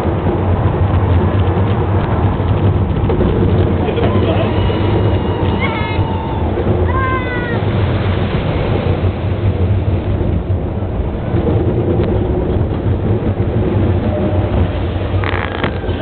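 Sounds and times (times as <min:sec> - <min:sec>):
roller coaster rumbling on track: 0:00.0 - 0:16.0
wind rushing: 0:00.0 - 0:16.0.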